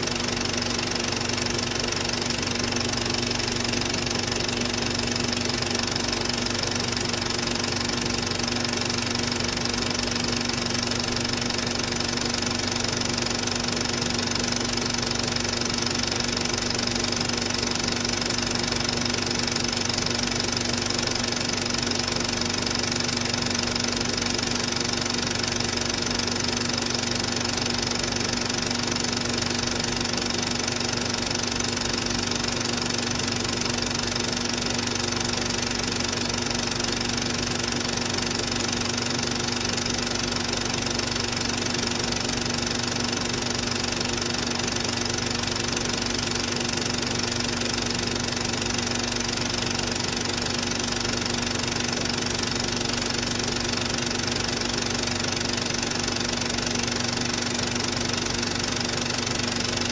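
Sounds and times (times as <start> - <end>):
film projector whirring and clattering: 0.0 - 59.9.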